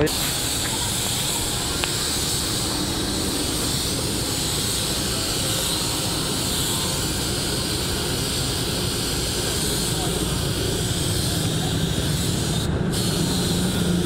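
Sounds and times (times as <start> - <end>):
low steady rumble: 0.0 - 14.0
paint spray gun hissing: 0.0 - 14.0.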